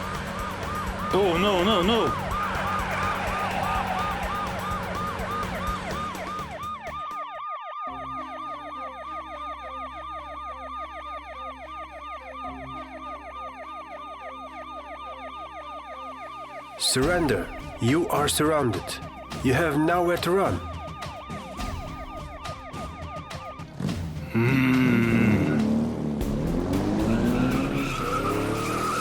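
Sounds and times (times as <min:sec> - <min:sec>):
police siren yelping: 0:00.0 - 0:25.9, 0:26.7 - 0:29.0.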